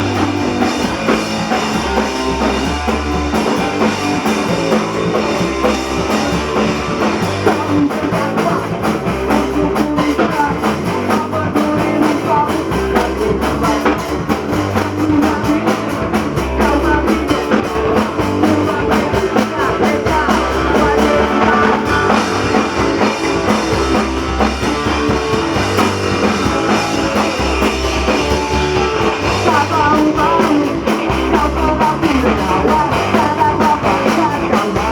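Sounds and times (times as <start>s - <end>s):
bass guitar: 0.0s - 34.9s
distorted electric guitar: 0.0s - 34.9s
fast drum kit beat: 0.0s - 34.9s.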